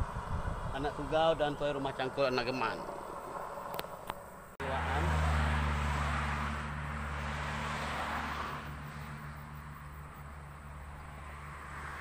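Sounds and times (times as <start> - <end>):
passing vehicle road noise: 0.0 - 12.0.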